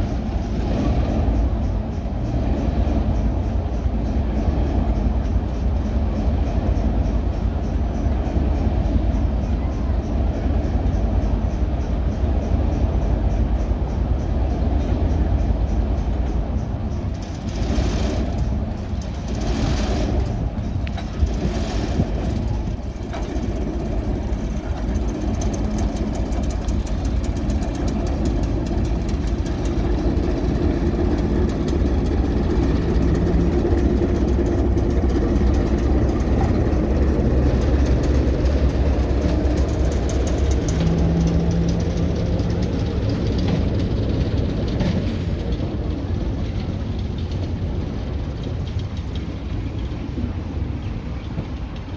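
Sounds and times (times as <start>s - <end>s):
steady hum: 0.0s - 51.1s
diesel engines droning: 0.0s - 51.9s.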